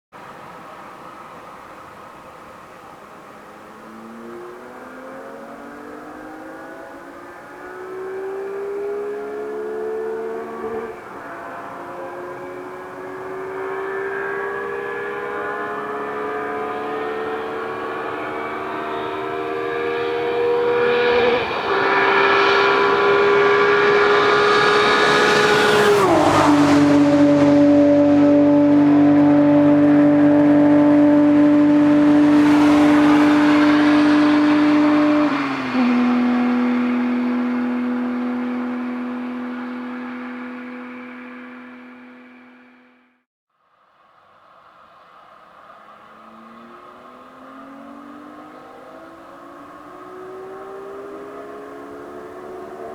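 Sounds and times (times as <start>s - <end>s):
car engine accelerating hard: 2.7s - 43.2s, 44.7s - 52.9s.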